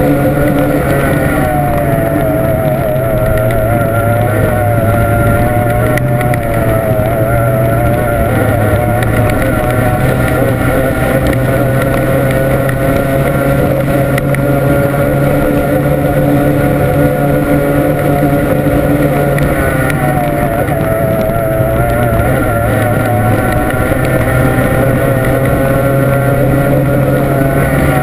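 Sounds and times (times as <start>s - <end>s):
racing outboard engine running: 0.0s - 28.0s.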